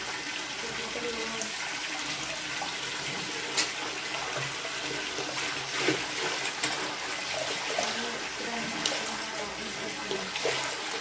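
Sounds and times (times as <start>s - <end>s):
water running into tub: 0.0s - 11.0s.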